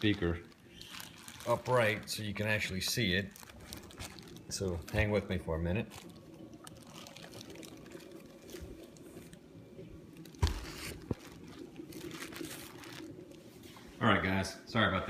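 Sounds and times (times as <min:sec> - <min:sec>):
cardboard and plastic rustling: 0:00.0 - 0:09.4, 0:10.2 - 0:13.9.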